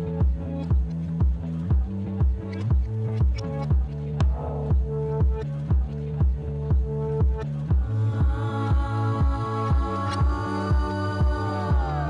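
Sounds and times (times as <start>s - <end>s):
kick drum beat: 0.2s - 11.9s.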